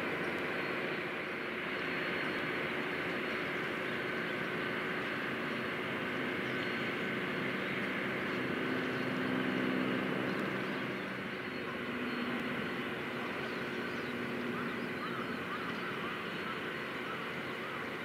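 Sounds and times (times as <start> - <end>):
bird calls: 0.0 - 18.0
low mechanical hum: 0.0 - 18.0.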